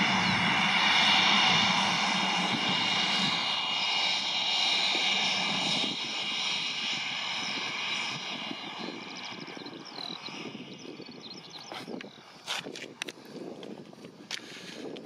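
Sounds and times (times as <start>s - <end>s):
jet engines whining at taxi: 0.0s - 15.0s.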